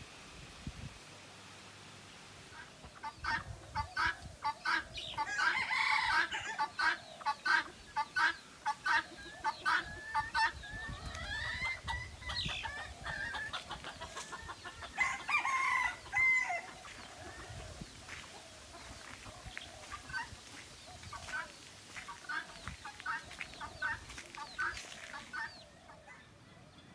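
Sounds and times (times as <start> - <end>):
chickens clucking: 2.4 - 26.9
roosters crowing: 3.2 - 26.9.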